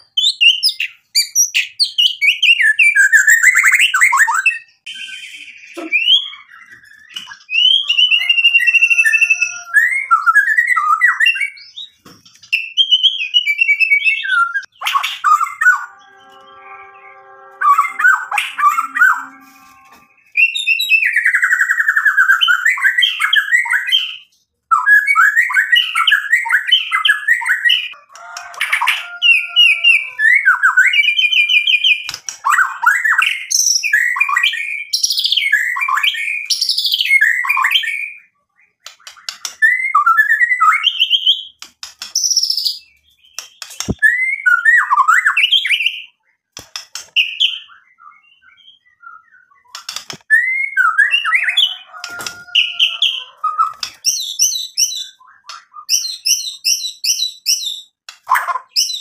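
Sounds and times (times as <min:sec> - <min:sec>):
songbird singing whistles and trills: 0:00.0 - 0:28.0, 0:28.9 - 0:41.6, 0:42.2 - 0:46.2, 0:47.2 - 0:59.0.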